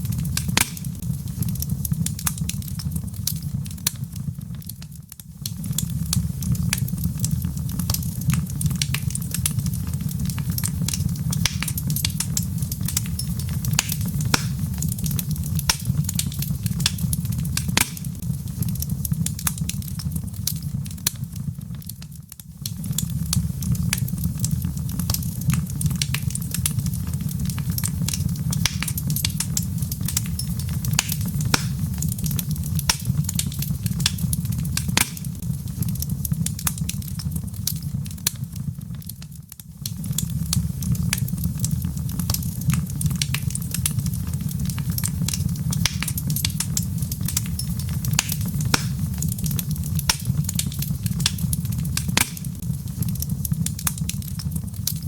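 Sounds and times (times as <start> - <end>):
logs crackling and popping: 0.0 - 55.0
low rumble of fire: 0.0 - 55.0.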